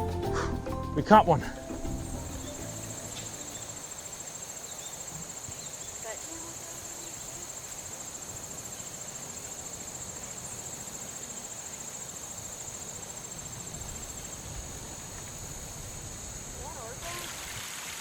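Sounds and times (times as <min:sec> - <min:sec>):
crickets trilling: 0:00.2 - 0:18.0.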